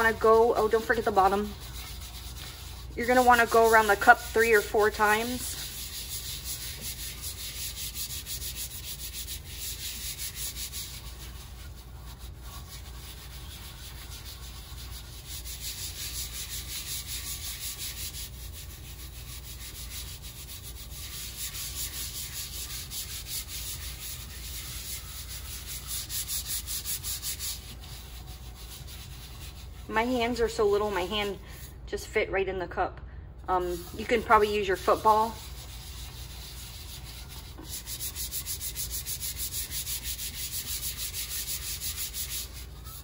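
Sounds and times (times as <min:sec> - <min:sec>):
hand scrubbing paste on tumbler: 0:00.0 - 0:31.8, 0:33.5 - 0:43.0.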